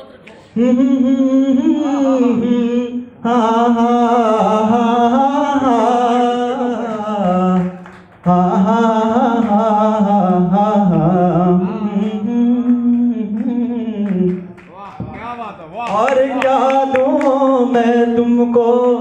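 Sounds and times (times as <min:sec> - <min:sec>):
man singing into microphone: 0:00.4 - 0:15.1, 0:15.8 - 0:19.0.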